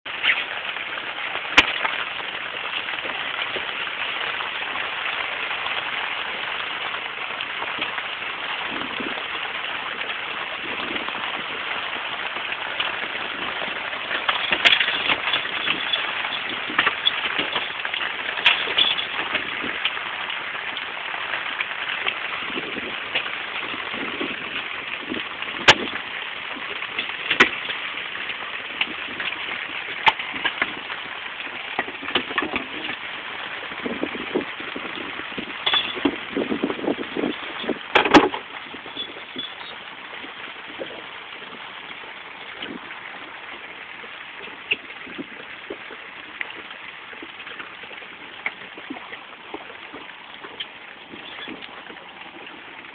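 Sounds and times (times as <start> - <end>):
rain hissing on a boat: 0.0 - 52.9.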